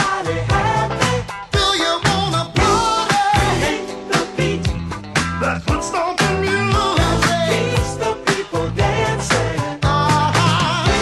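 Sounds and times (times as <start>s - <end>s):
funk bass line: 0.0s - 11.0s.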